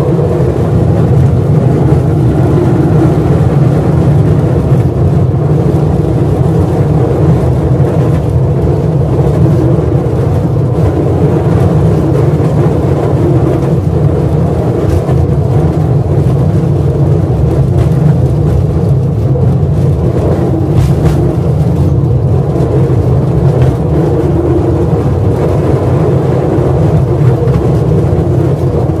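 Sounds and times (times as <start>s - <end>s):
mine train rumbling in tunnel: 0.0s - 29.0s.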